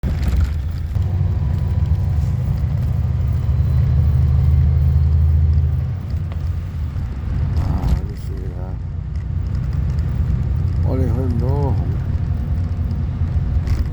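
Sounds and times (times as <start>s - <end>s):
low vehicle rumble: 0.0s - 13.9s.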